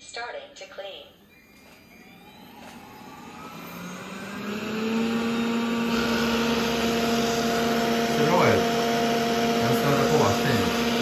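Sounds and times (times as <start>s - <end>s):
robot vacuum motor whine: 1.2s - 11.0s
suction fan rushing: 1.9s - 11.0s.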